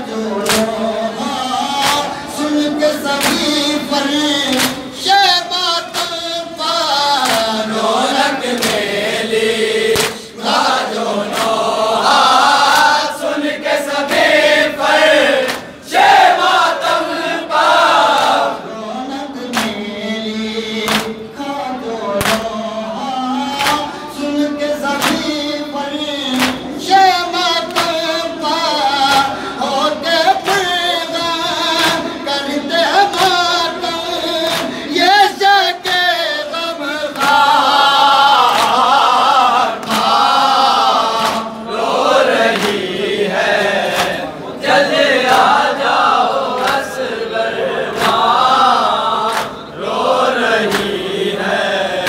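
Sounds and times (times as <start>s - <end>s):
men chanting in unison: 0.0s - 52.0s
person reciting into a microphone: 0.0s - 52.0s
rhythmic chest-beating slaps: 0.0s - 52.0s.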